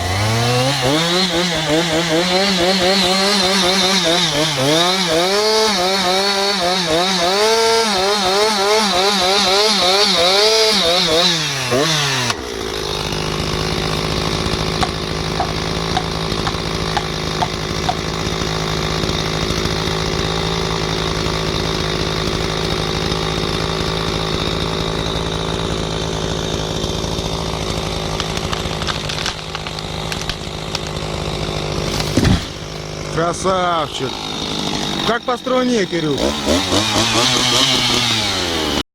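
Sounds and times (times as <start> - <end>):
chainsaw cutting wood: 0.0 - 38.8.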